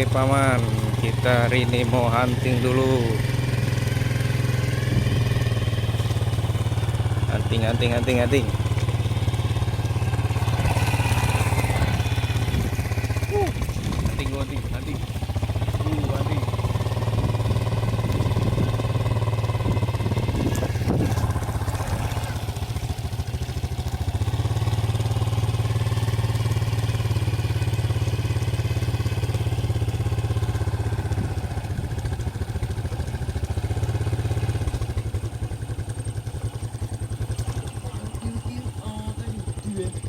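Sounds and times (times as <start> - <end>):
small motorcycle engine running: 0.0 - 40.0.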